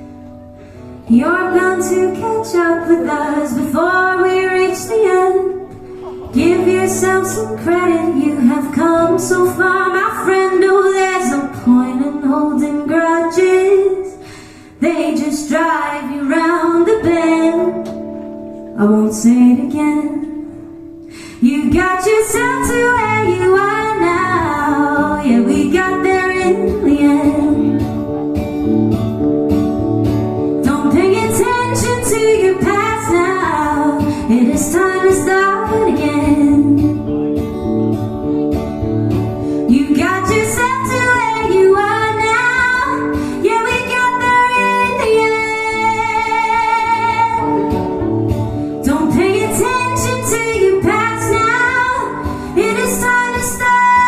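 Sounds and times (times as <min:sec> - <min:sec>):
guitar: 0:00.0 - 0:54.0
woman singing: 0:01.0 - 0:18.2, 0:18.8 - 0:20.6, 0:21.3 - 0:28.1, 0:30.5 - 0:37.3, 0:39.6 - 0:54.0.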